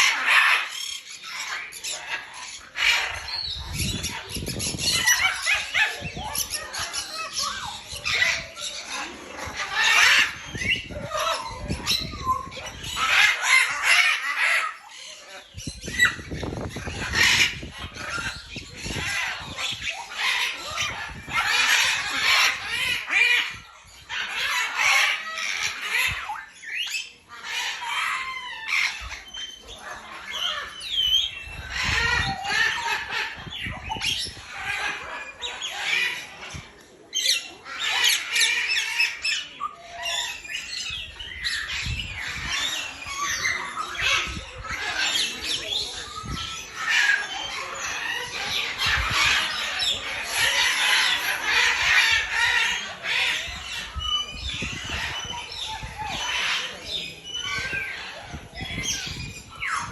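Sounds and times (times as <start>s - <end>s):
birds squawking and calling: 0.0s - 59.9s.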